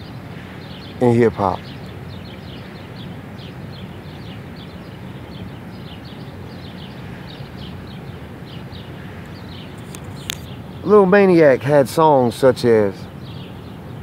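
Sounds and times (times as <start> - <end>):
low city hum: 0.0 - 14.0
small birds chirping: 0.0 - 14.0.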